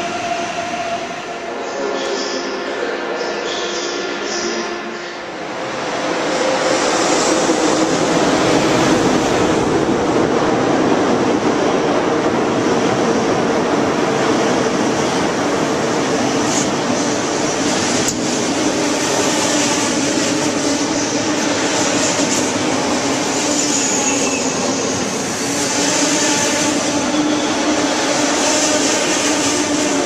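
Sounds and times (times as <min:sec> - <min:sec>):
high-speed train rolling past: 0:00.0 - 0:30.0.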